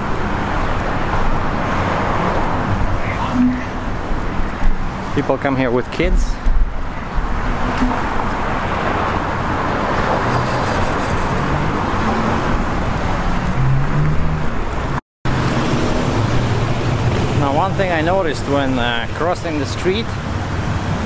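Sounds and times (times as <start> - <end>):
cars passing on street: 0.0 - 21.0.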